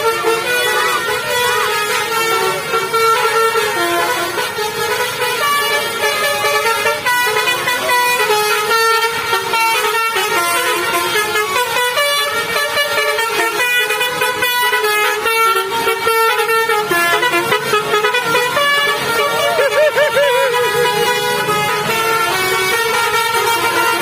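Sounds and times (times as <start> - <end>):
bus musical air horn tune: 0.0 - 24.0.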